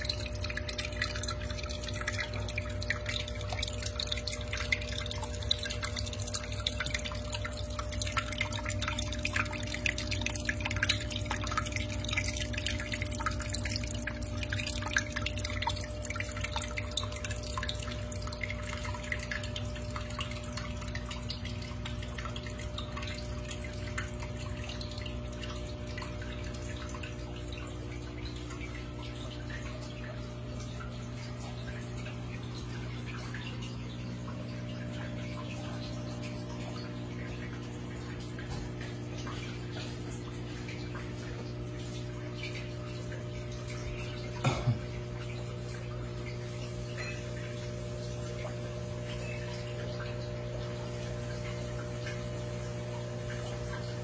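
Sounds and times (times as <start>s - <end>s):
steady low hum: 0.0s - 54.0s
water trickling over rocks: 0.0s - 54.0s.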